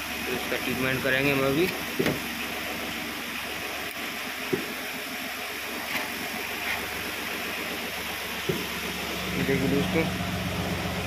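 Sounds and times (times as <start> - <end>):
fan motor humming: 0.0 - 11.0.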